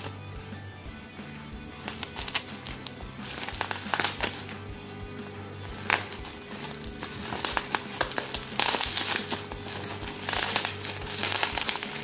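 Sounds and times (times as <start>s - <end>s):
background music: 0.0s - 12.0s
plastic wrapping crinkling: 1.8s - 12.0s.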